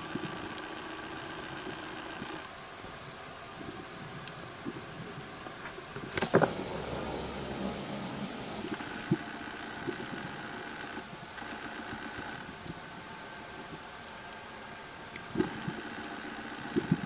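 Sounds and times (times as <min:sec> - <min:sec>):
underwater boat motor drone: 0:00.0 - 0:04.0, 0:06.0 - 0:17.0.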